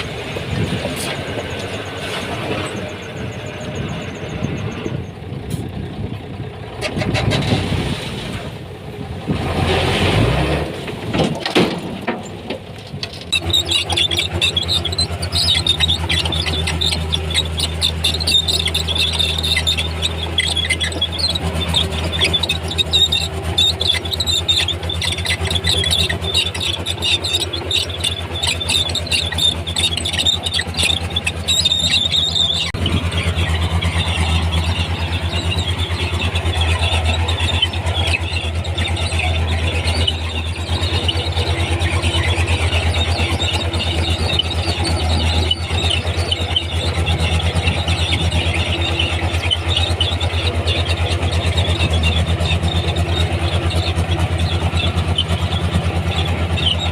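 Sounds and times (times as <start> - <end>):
steel tracks squealing and clanking: 0.0 - 7.8, 9.2 - 56.9
bulldozer diesel engine running: 0.0 - 56.9.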